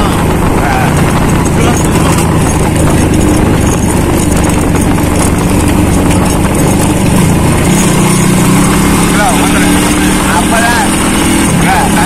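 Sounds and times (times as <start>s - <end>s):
small motorcycle engine running: 0.0s - 12.0s
wind and road noise: 0.0s - 12.0s.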